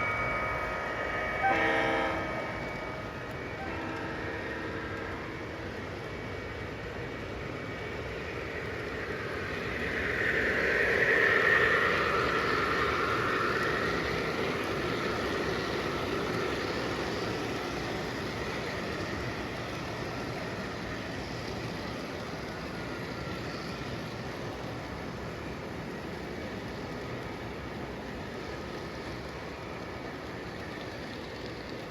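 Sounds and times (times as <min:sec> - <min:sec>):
model train rumbling: 0:00.0 - 0:31.9.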